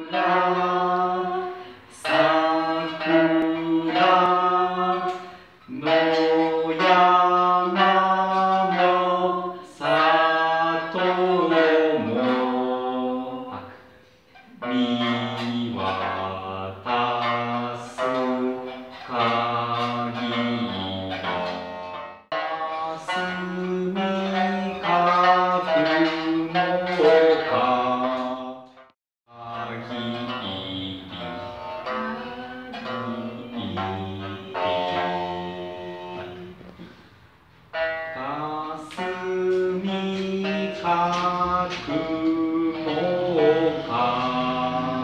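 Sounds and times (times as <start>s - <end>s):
person singing slow melody: 0.0s - 21.7s, 22.4s - 37.0s, 38.1s - 45.0s.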